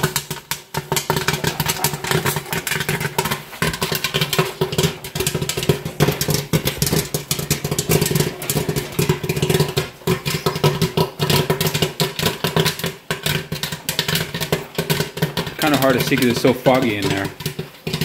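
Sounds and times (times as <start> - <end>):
popcorn machine hum: 0.0 - 18.0
popcorn popping: 0.0 - 18.0.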